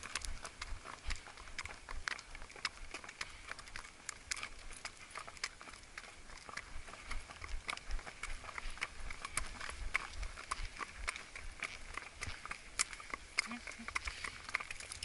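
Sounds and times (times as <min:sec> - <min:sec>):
hooves clattering on wet road: 0:00.0 - 0:15.0.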